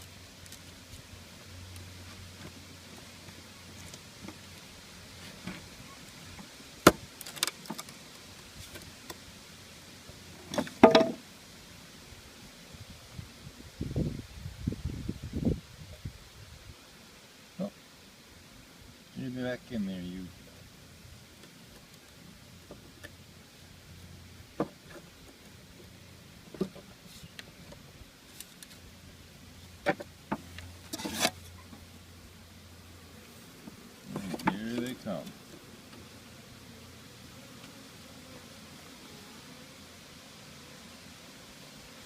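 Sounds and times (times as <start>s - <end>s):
honeybees humming: 0.0s - 42.0s.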